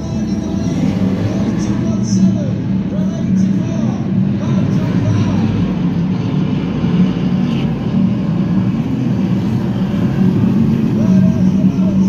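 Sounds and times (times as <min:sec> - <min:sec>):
stock car engines roaring: 0:00.0 - 0:12.0.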